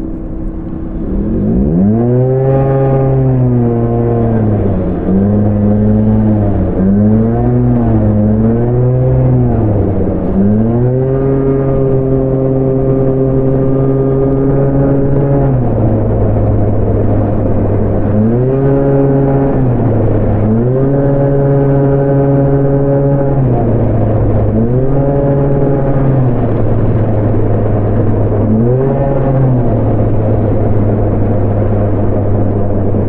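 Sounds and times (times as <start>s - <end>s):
scooter engine revving: 0.0s - 33.0s.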